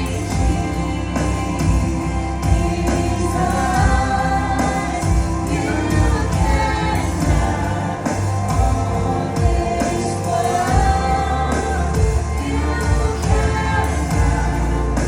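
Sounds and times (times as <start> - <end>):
gospel singing with band: 0.0 - 15.0.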